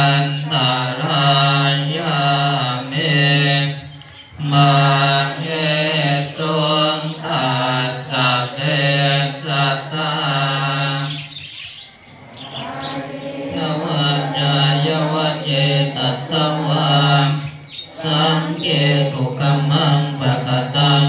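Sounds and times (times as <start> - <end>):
group chanting in unison: 0.0 - 21.0.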